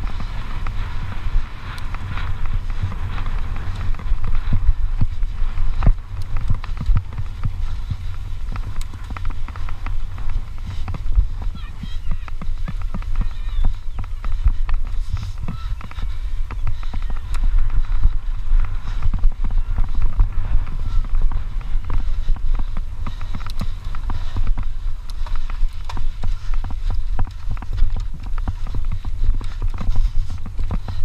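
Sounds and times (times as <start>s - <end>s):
bike rattling over bumps: 0.0s - 31.0s
wind rumble on microphone: 0.0s - 31.0s.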